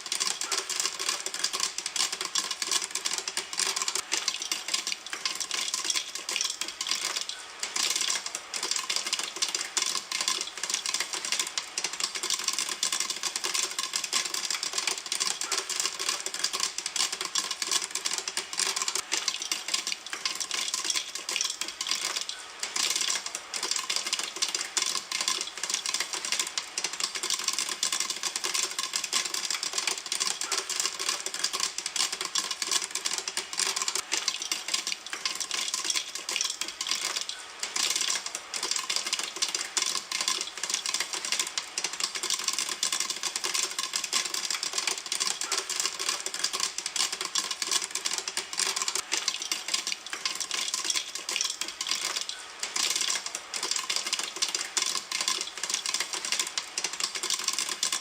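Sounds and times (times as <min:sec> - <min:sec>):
popcorn popping in a pan: 0:00.0 - 0:58.0.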